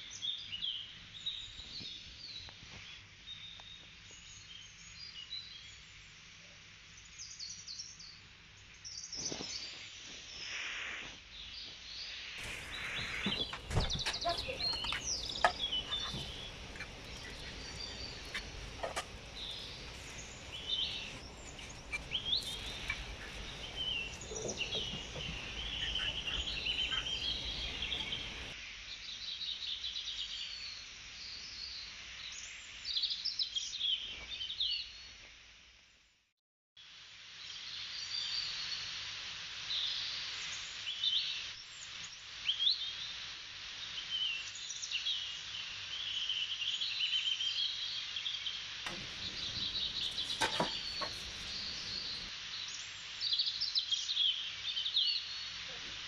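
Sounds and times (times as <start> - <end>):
small birds chirping: 0.0 - 10.6, 11.2 - 35.1, 43.8 - 56.0
steady outdoor hiss: 0.0 - 36.1, 36.8 - 56.0.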